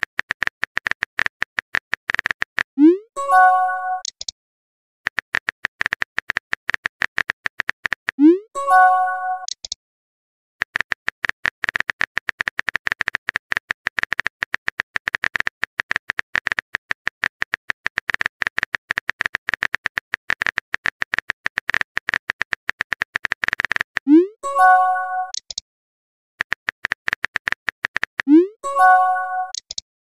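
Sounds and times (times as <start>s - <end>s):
phone keyboard typing clicks: 0.0s - 2.8s, 3.8s - 4.3s, 5.1s - 8.2s, 8.8s - 9.8s, 10.6s - 25.6s, 26.4s - 29.8s.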